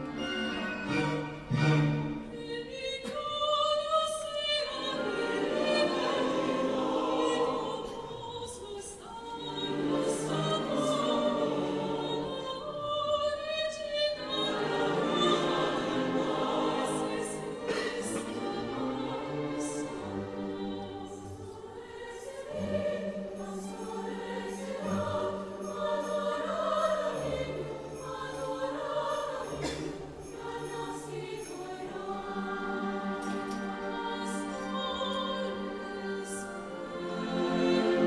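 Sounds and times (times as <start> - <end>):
choir singing: 0.0 - 38.0.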